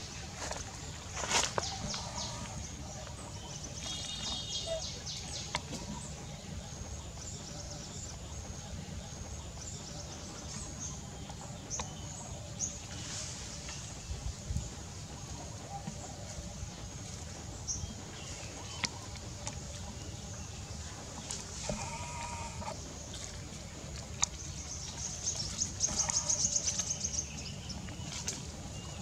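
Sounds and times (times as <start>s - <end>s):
low background rumble: 0.0s - 29.0s.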